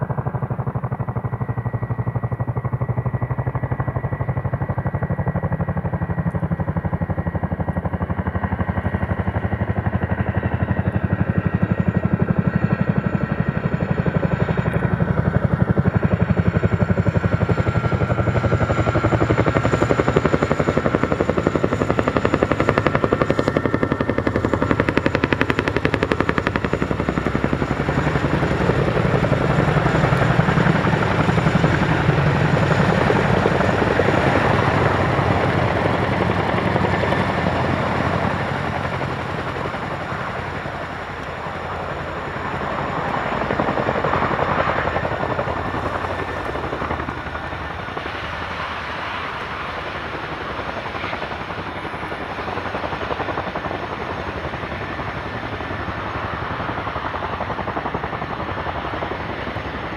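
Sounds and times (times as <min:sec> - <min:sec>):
helicopter engine whine: 0:00.0 - 0:59.9
helicopter rotors beating: 0:00.0 - 0:59.9.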